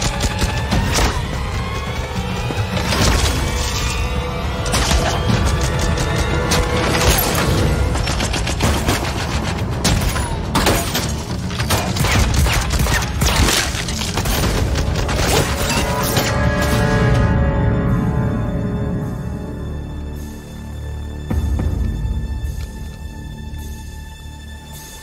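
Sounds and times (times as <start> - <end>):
dramatic music: 0.0 - 25.0.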